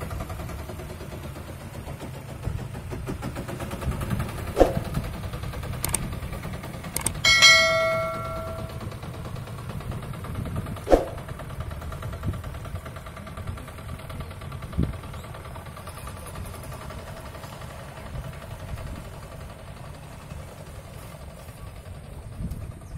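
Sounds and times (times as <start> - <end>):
boat engine running: 0.0 - 22.9.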